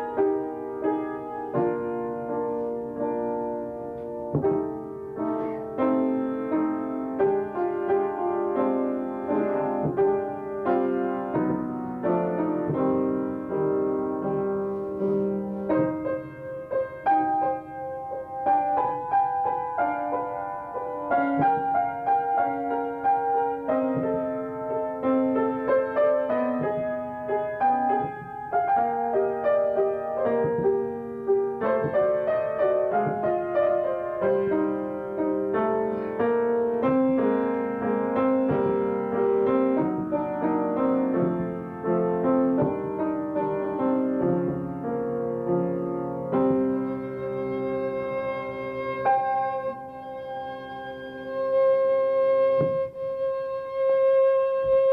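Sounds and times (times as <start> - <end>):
upright piano playing: 0.0 - 54.9.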